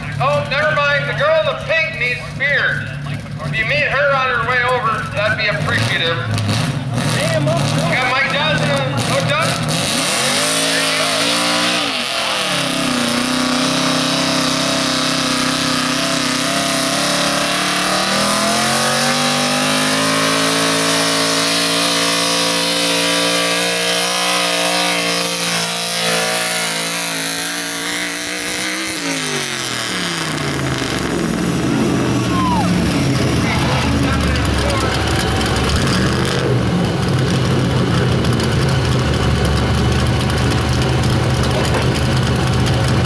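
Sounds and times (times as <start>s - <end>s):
truck engine revving under load: 0.0s - 43.0s.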